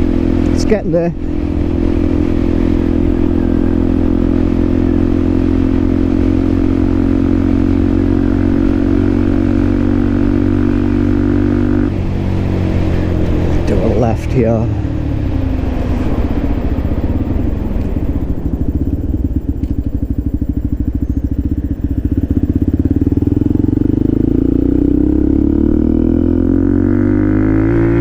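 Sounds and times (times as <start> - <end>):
motorcycle engine and exhaust: 0.0 - 28.0.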